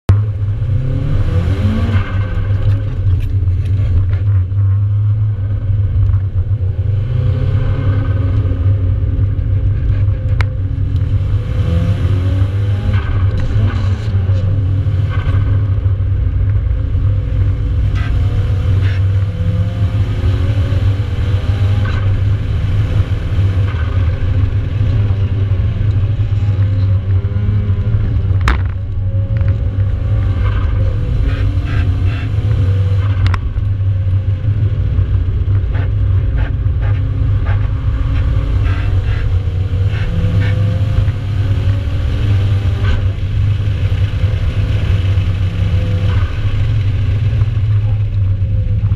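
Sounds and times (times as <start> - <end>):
car engine revving: 0.1 - 48.9.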